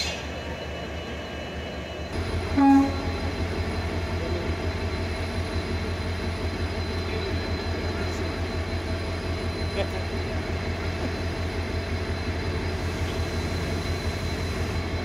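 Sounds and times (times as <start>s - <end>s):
diesel engine throbbing: 2.1s - 15.0s.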